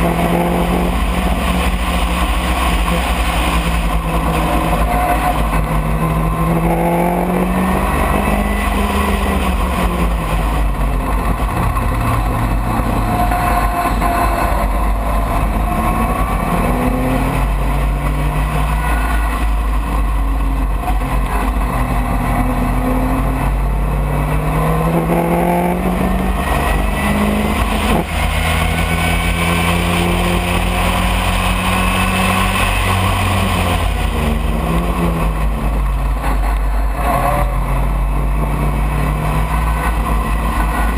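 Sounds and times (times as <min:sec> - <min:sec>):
racing car engine revving: 0:00.0 - 0:40.9
wind and road noise: 0:00.0 - 0:40.9.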